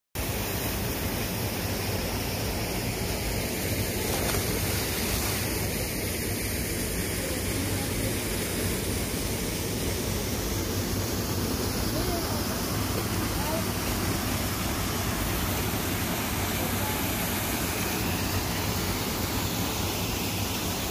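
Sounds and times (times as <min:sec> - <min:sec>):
river water rushing over rocks: 0:00.2 - 0:20.9.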